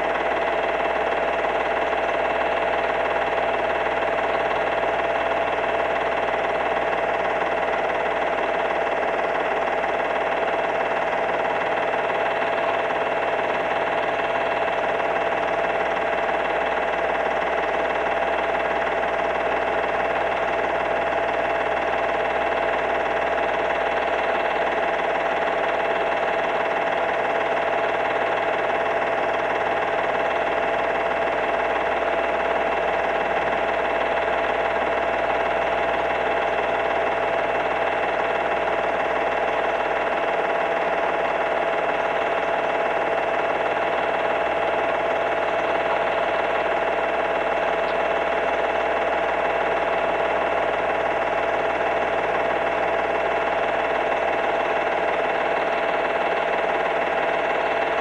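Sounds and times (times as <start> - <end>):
steady multi-tone hum: 8.2 - 58.0.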